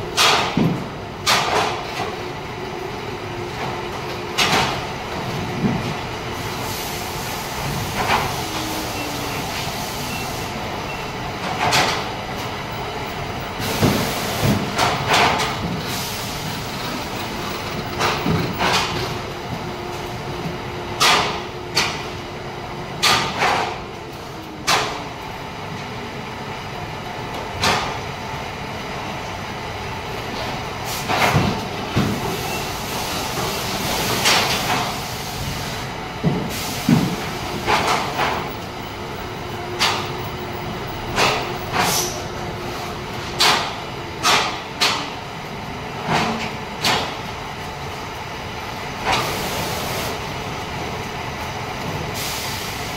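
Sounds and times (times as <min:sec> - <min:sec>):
factory machinery hum: 0:00.0 - 0:52.9.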